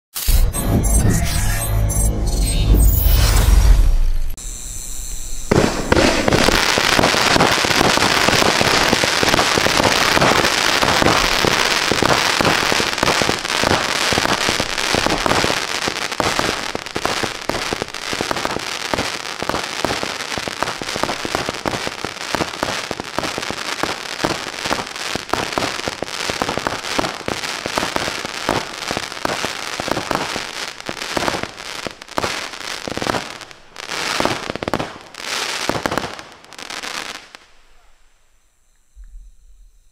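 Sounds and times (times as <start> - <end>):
firework launches and bursts: 2.9 - 37.6
firework crackling: 3.4 - 37.8.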